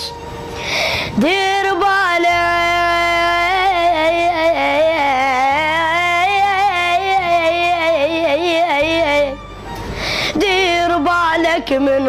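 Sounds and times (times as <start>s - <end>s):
boy singing: 1.2s - 9.4s, 10.4s - 12.0s.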